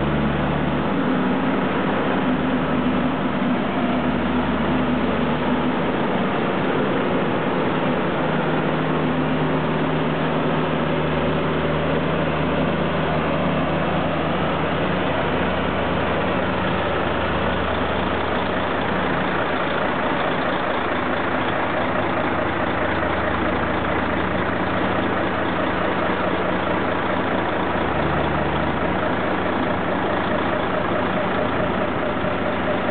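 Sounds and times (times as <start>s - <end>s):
dense mechanical noise: 0.0s - 32.9s
heavy vehicle engine running: 0.0s - 32.9s.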